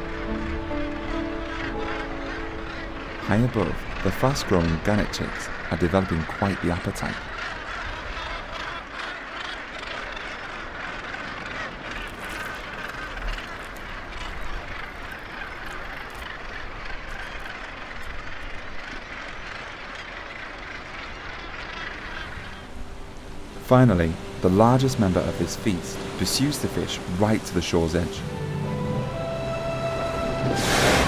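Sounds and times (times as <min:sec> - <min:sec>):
seabird colony harsh calls: 0:00.0 - 0:31.0.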